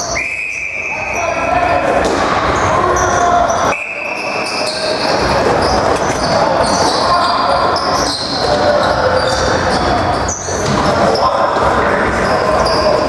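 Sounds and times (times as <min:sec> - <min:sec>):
players calling out: 0:00.0 - 0:13.0.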